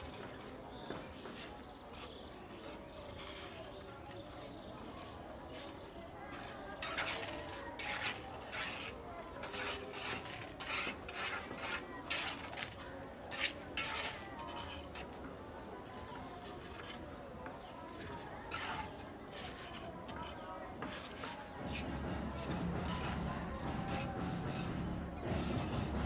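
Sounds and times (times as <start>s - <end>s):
hand tool scraping gritty surface: 0.0s - 15.2s, 15.8s - 26.0s.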